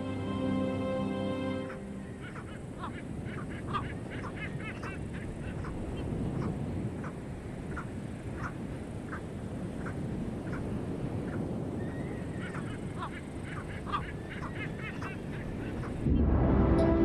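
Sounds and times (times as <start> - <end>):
seabirds honking: 0.0 - 10.7, 12.4 - 16.1
surf and wind rushing: 0.0 - 17.0.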